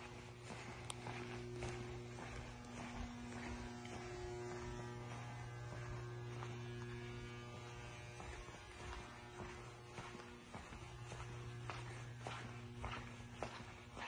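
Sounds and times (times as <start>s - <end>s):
electrical mains hum: 0.0s - 14.0s
footsteps on concrete floor: 0.0s - 14.0s.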